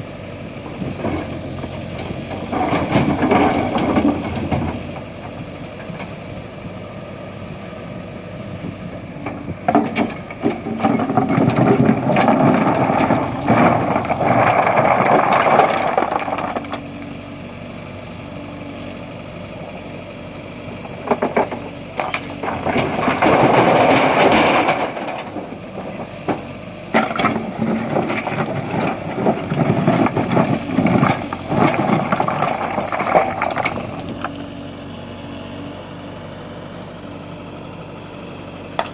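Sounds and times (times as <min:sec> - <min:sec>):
backhoe diesel engine revving: 0:00.0 - 0:38.9.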